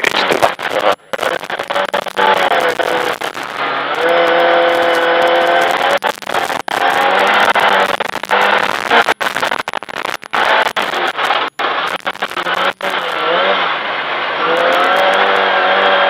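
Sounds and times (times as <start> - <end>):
car engine revving hard: 0.4 - 9.2, 10.4 - 16.0.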